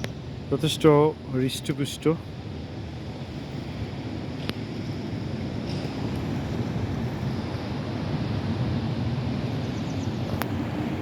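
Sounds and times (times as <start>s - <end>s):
city traffic: 0.0s - 11.0s.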